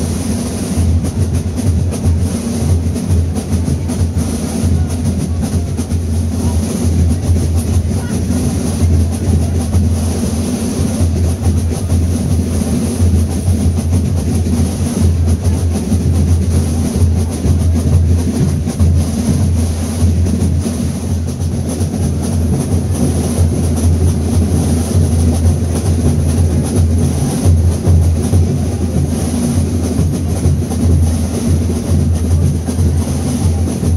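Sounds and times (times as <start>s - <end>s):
drums beating a dance rhythm: 0.0s - 33.9s.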